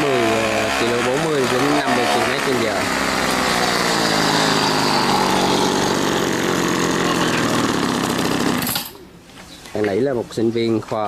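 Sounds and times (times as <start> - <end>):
scooter engine running loud: 0.0 - 8.9.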